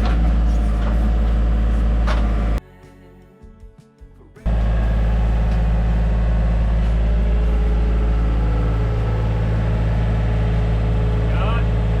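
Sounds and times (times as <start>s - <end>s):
tractor diesel engine running: 0.0s - 2.6s, 4.5s - 12.0s.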